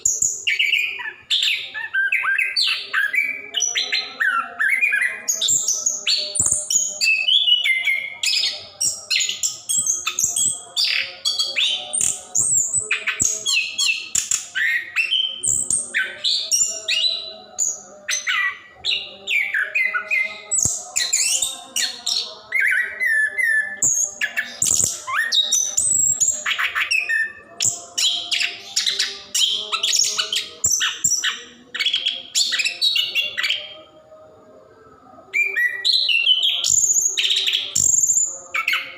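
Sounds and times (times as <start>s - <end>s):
thrush singing: 0.0s - 38.9s.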